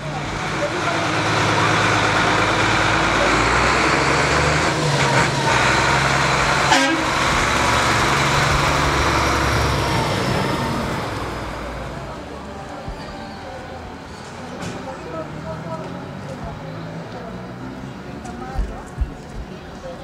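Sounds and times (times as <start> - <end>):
diesel truck driving past: 0.0 - 18.4.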